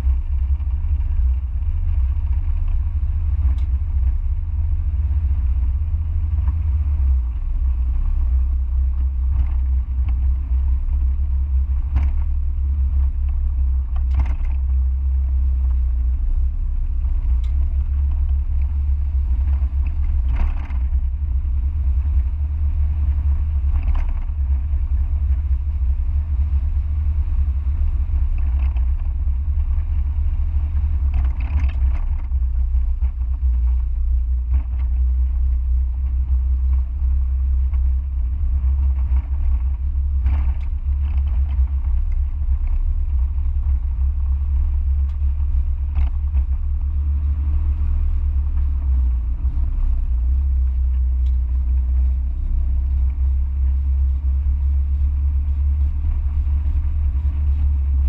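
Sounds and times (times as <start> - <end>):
car engine rumbling while driving: 0.0 - 58.0.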